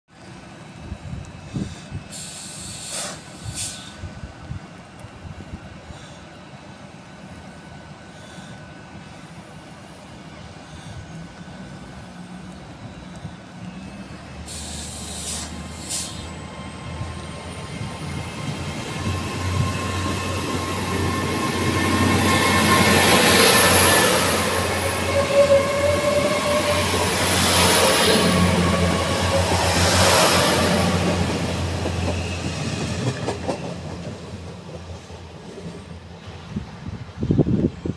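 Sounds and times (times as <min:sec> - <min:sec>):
train engine rumble: 0:00.1 - 0:37.9.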